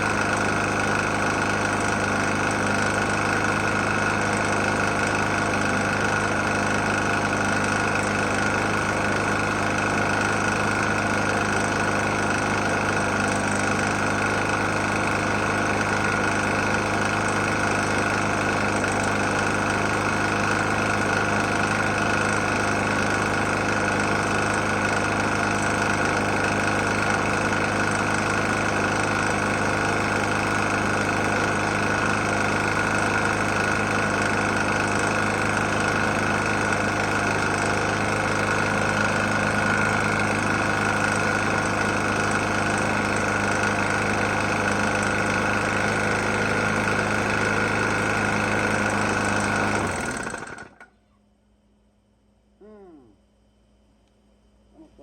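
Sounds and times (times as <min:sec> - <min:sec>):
lawn mower engine knocking: 0:00.0 - 0:50.9.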